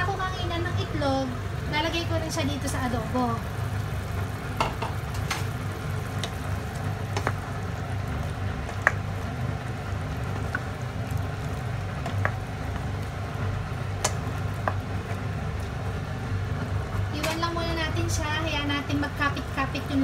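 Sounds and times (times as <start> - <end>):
sauce bubbling in a pot: 0.0 - 17.2
steady low hum: 0.0 - 20.0.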